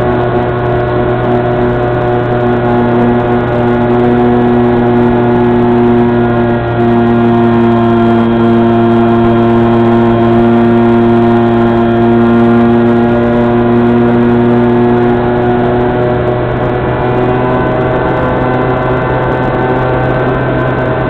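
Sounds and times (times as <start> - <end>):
electric motor and propeller drone: 0.0 - 21.0.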